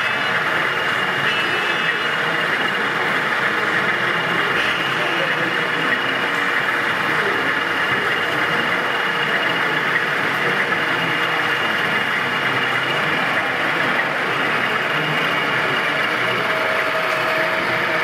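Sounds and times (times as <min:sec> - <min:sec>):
hall background noise: 0:00.0 - 0:18.0
model train diesel engine: 0:00.0 - 0:18.0
thin steady whine: 0:00.0 - 0:18.0.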